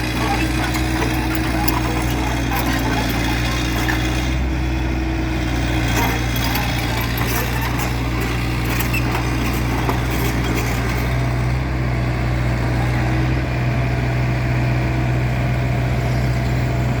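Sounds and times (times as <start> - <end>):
heavy machine engine droning: 0.0 - 17.0.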